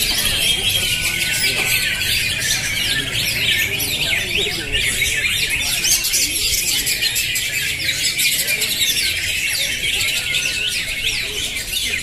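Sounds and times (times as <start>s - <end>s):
birds singing in chorus: 0.0s - 12.0s.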